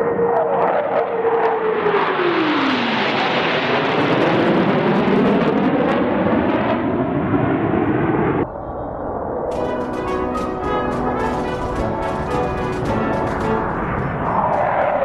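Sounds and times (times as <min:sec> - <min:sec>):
jets flying past roaring: 0:00.0 - 0:15.0.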